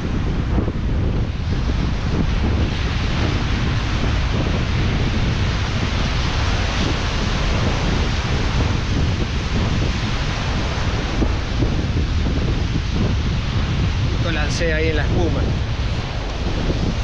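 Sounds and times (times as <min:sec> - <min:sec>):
surf washing over rocks: 0:00.0 - 0:17.0
wind buffeting microphone: 0:00.0 - 0:17.0.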